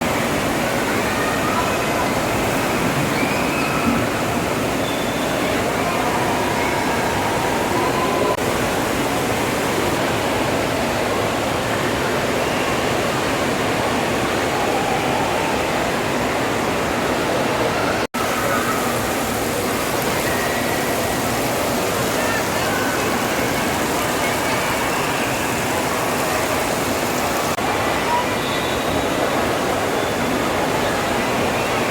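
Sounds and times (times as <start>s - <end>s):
faint voices: 0.0s - 31.9s
water rushing: 0.0s - 31.9s.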